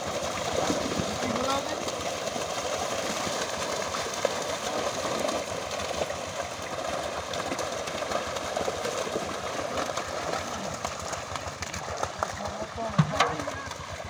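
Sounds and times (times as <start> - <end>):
fish thrashing and splashing: 0.0 - 14.0.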